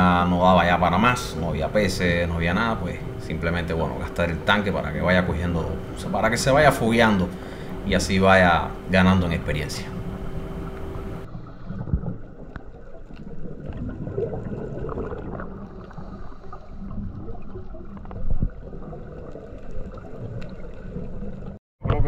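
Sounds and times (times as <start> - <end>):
muffled underwater rush: 0.0 - 21.6
water gurgling: 0.0 - 21.6.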